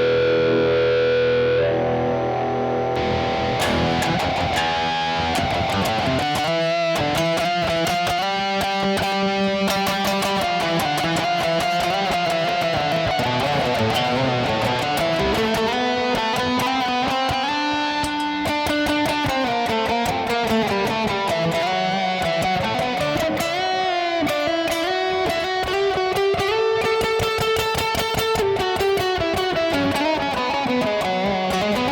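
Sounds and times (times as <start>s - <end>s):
overdriven electric guitar lead: 0.0s - 31.9s.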